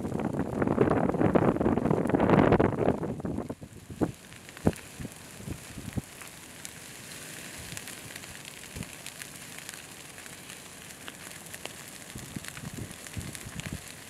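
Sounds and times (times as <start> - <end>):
wildfire crackling and popping: 0.0 - 14.0.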